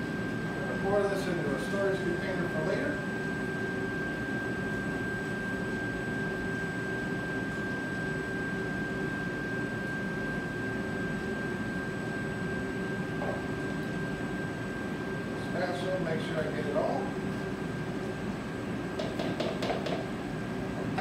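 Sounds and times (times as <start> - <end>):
high-pitched machinery whine: 0.0 - 17.8.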